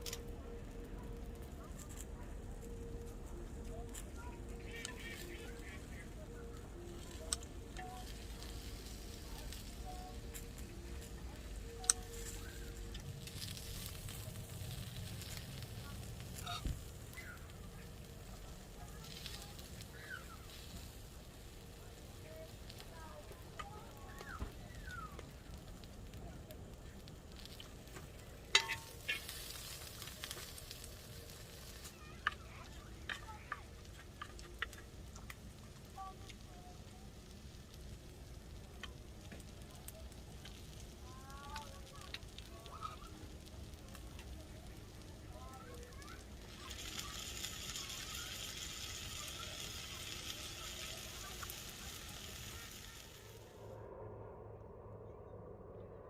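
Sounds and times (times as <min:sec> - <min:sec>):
sizzling with crackles: 0:00.0 - 0:53.8.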